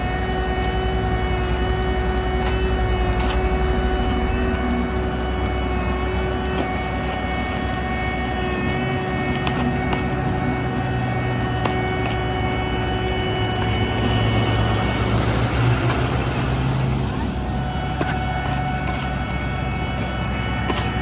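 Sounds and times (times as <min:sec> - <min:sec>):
diesel engines droning: 0:00.0 - 0:21.0
machine whine: 0:00.0 - 0:21.0.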